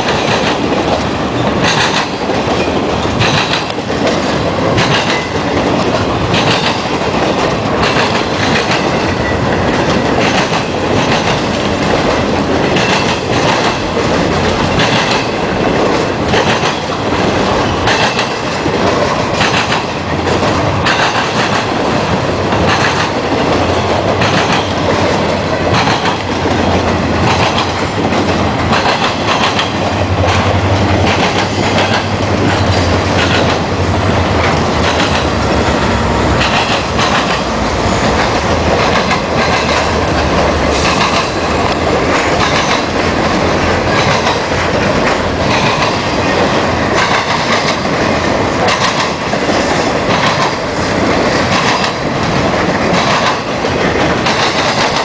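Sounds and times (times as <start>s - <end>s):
low diesel locomotive drone: 0.0s - 55.0s
steel wheels rumbling: 0.0s - 55.0s
wheels clacking over rail joints: 0.0s - 55.0s.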